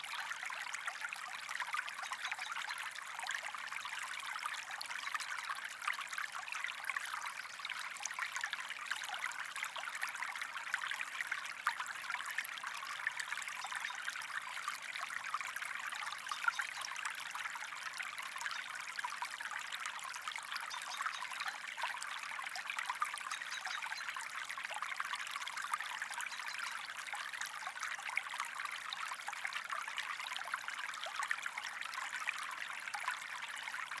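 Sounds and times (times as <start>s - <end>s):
stream trickling over stones: 0.0s - 34.0s.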